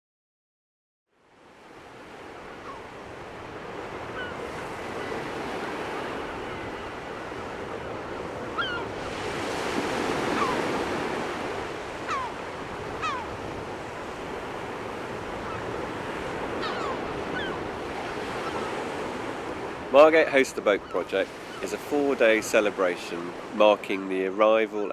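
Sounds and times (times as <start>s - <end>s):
wind: 1.1s - 24.9s
waves washing on shore: 1.3s - 24.9s.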